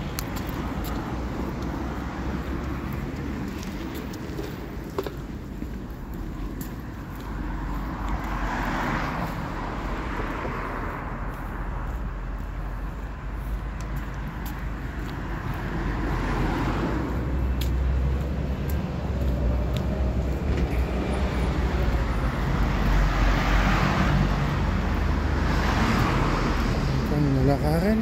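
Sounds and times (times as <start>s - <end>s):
vehicles passing on street: 0.0s - 28.0s.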